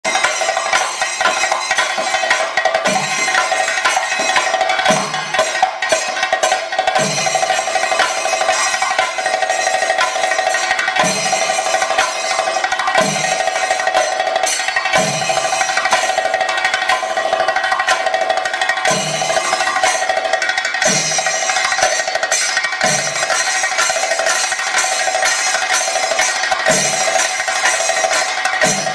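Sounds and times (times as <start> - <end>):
chenda drums playing fast: 0.0 - 28.9.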